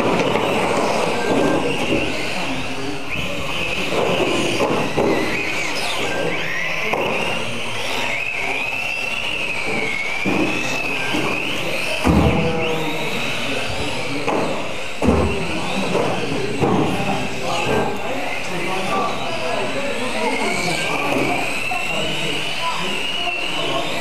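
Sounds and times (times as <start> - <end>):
rc car motor whine: 0.0 - 24.0.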